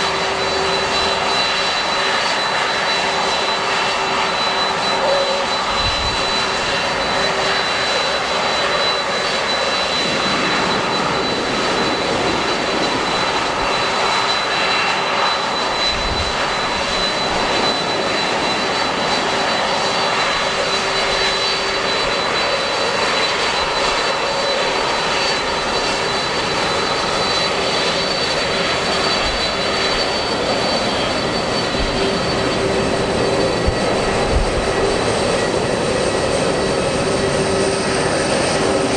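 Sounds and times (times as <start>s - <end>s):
airliner engines roaring with high whine: 0.0s - 38.9s.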